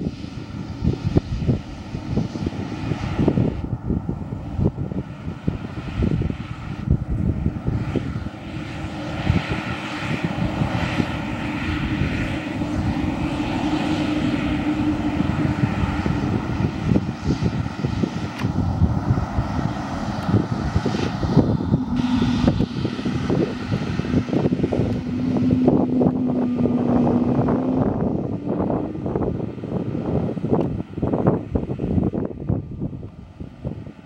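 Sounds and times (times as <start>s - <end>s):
jet engines roaring and whining: 0.0s - 34.0s.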